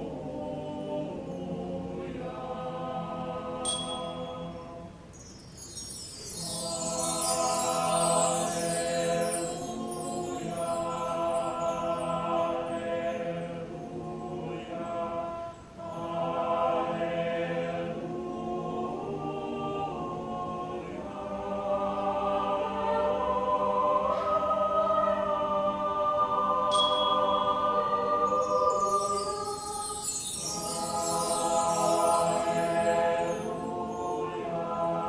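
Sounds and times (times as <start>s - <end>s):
mixed choir singing: 0.0s - 5.1s, 5.8s - 35.0s.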